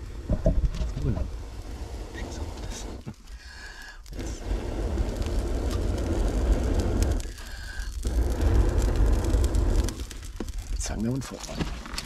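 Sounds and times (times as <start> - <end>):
fire crackling: 0.0 - 12.0
person blowing on embers: 0.9 - 12.0.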